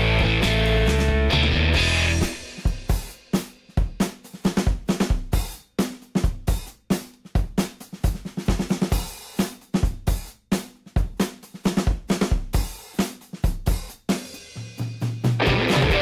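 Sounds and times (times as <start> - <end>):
drum kit playing a beat: 0.0 - 16.0.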